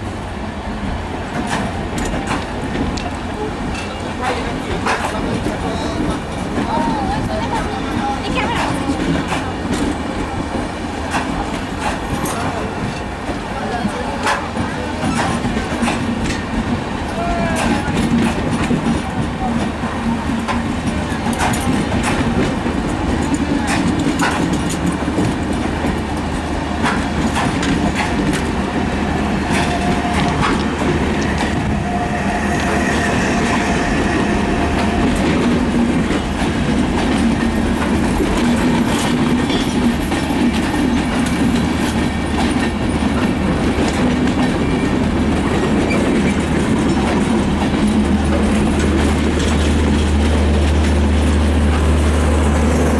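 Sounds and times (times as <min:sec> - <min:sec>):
train carriages rumbling: 0:00.0 - 0:52.9
train wheels clicking over rail joints: 0:00.9 - 0:52.9.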